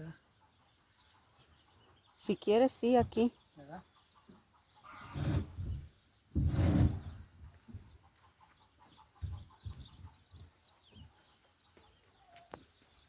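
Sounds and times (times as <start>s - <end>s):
chickens clucking and chirping: 0.0s - 13.0s.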